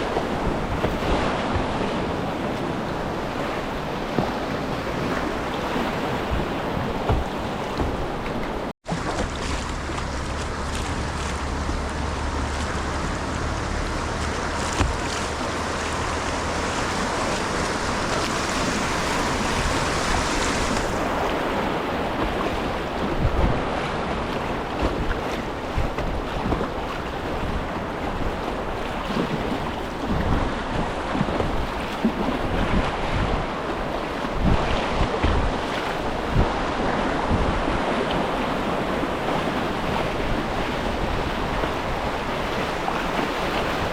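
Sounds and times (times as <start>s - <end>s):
low thumps and splashes: 0.0s - 43.9s
rushing whitewater: 0.0s - 43.9s
wind buffeting microphone: 0.0s - 43.9s.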